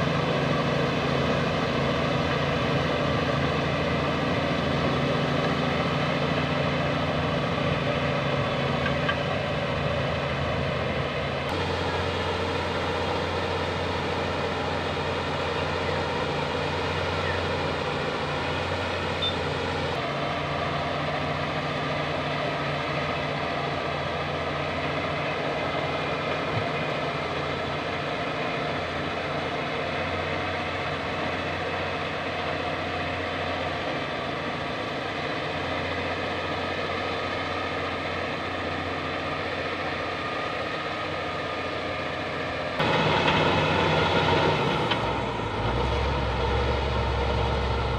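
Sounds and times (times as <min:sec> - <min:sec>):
bulldozer diesel engine droning: 0:00.0 - 0:47.9.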